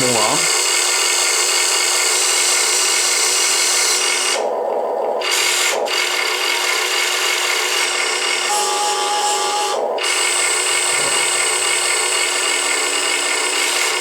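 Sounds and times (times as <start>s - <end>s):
electric motors whirring and grinding: 0.0s - 14.0s.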